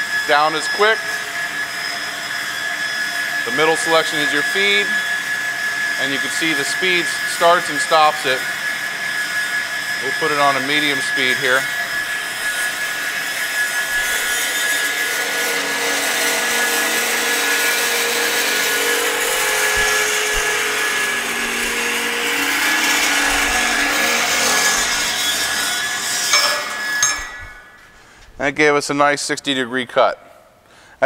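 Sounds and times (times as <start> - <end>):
steady saw tones: 0.0 - 28.2.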